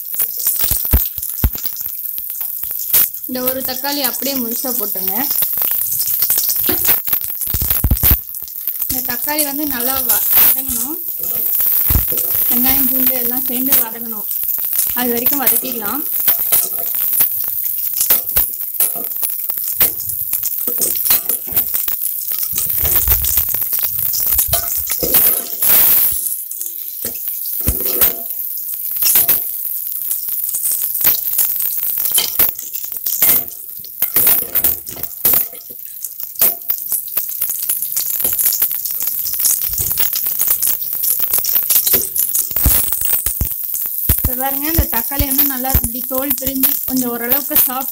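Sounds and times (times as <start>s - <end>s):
vegetables sizzling in hot oil: 0.0s - 47.9s.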